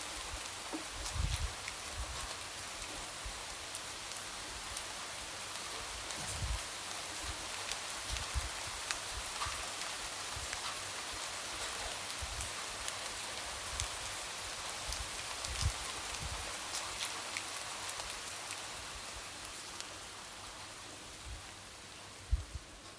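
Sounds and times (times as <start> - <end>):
light rain on a window: 0.0 - 22.9.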